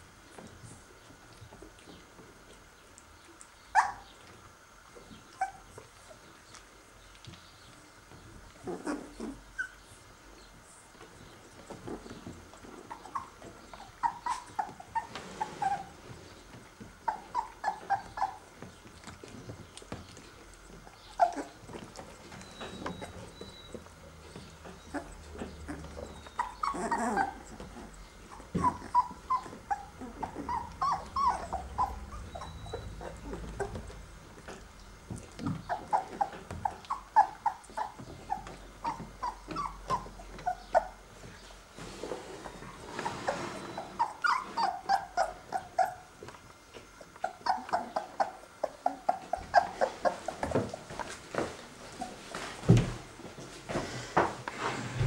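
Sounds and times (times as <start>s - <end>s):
puppies whimpering: 3.4s - 51.2s.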